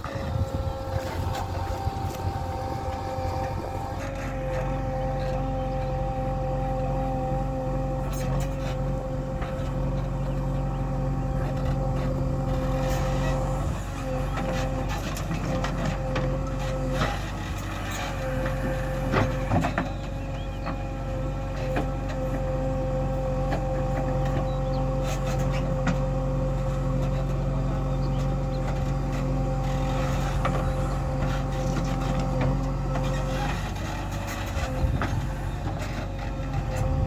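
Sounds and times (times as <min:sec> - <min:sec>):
constant whine: 0:00.0 - 0:37.0
diesel engine running: 0:00.0 - 0:37.0.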